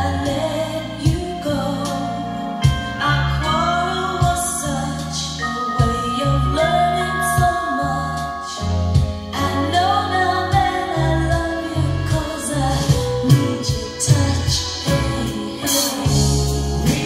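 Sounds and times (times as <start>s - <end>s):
song with singing over bass: 0.0s - 17.0s.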